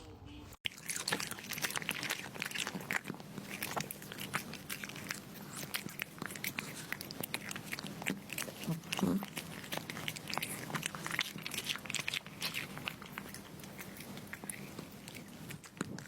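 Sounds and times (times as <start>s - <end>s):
cat crunching dry food: 0.7s - 16.0s.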